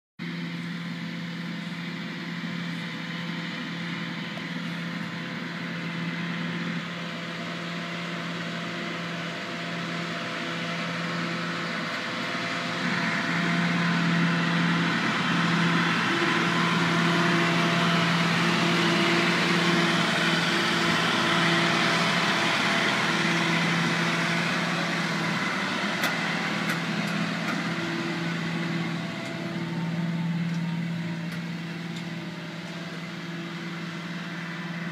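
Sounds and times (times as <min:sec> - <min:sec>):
diesel engine humming: 0:00.2 - 0:34.9.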